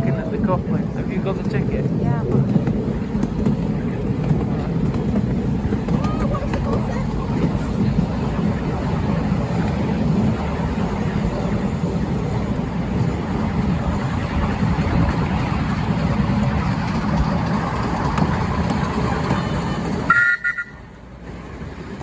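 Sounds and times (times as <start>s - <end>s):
miniature train rumbling on track: 0.0s - 22.0s.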